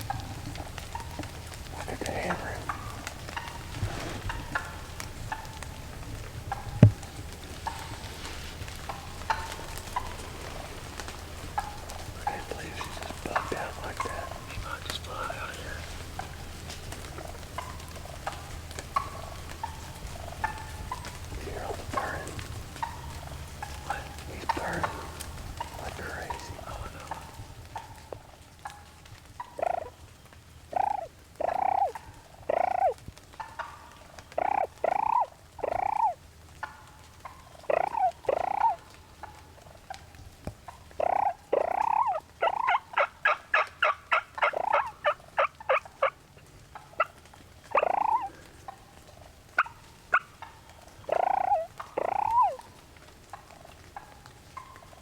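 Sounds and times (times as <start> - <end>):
wild turkey calling: 0.0 - 55.0.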